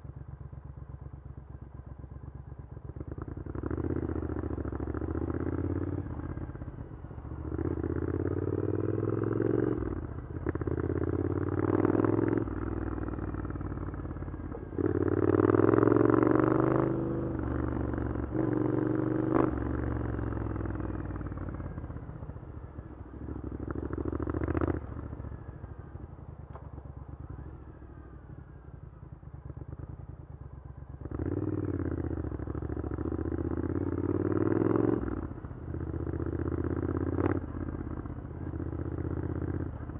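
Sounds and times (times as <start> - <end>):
motorcycle engine revving: 2.1 - 39.9.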